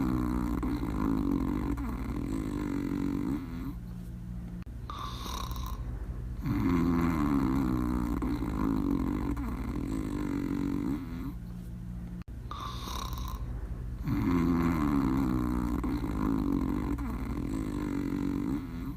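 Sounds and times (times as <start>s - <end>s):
dog snoring: 0.0s - 4.0s, 4.8s - 11.6s, 12.4s - 18.9s.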